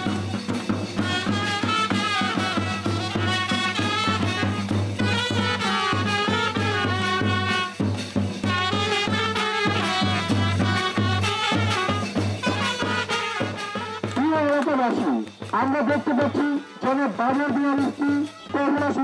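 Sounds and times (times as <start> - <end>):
brass band playing dance tune: 0.0 - 19.0.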